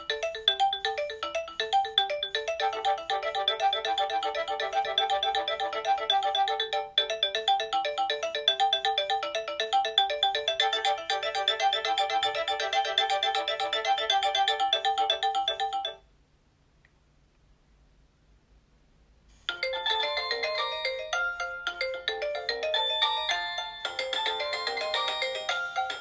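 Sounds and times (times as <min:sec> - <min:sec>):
polyphonic phone ringtone: 0:00.0 - 0:16.0, 0:19.5 - 0:26.0.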